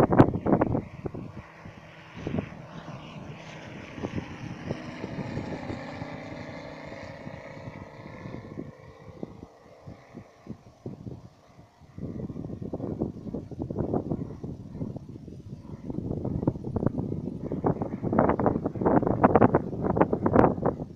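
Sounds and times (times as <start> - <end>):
biplane engine drone: 0.0 - 20.9
wind buffeting microphone: 0.0 - 20.9.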